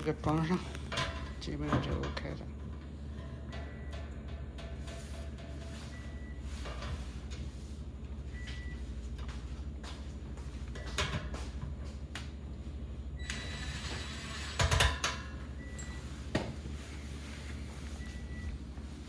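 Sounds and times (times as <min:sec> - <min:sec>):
compressor humming: 0:00.0 - 0:19.0.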